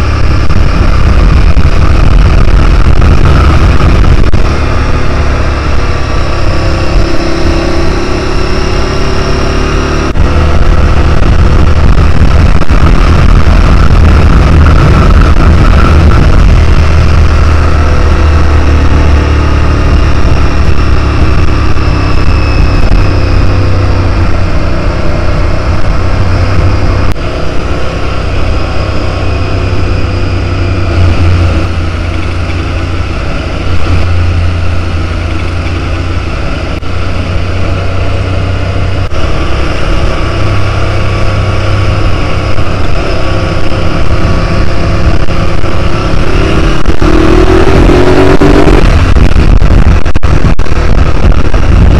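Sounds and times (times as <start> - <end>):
motorcycle engine running: 0.0 - 51.9
wind rush on microphone: 0.0 - 51.9.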